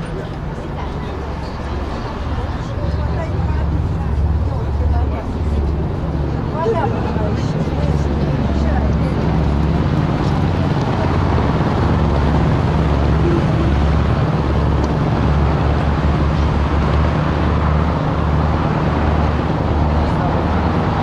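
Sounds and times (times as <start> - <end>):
city road traffic: 0.0 - 21.0.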